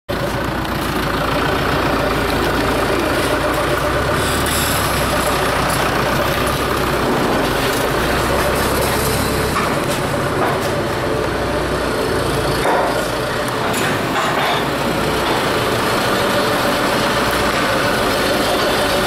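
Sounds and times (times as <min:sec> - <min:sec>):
tractor diesel engine running: 0:00.1 - 0:19.0.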